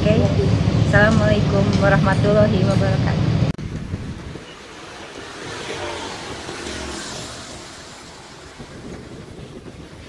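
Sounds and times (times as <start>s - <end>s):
road and wind noise: 0.0s - 10.0s
vehicle passing: 0.0s - 10.0s.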